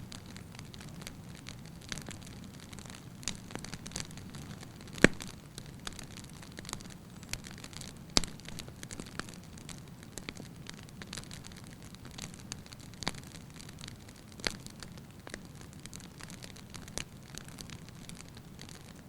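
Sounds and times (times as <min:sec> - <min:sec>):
loud fire pops: 0:00.0 - 0:19.0
wood logs burning: 0:00.0 - 0:19.0.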